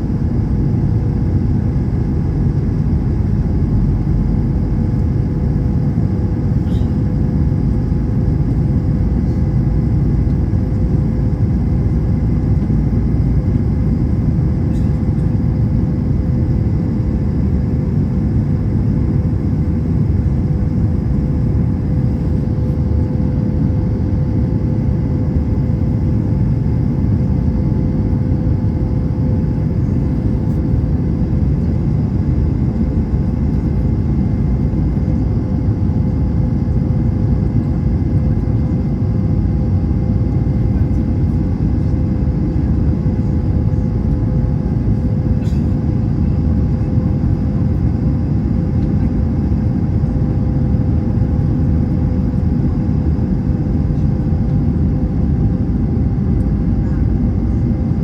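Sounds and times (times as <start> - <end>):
airliner cabin engine rumble: 0.0 - 58.0
constant hum: 0.0 - 58.0.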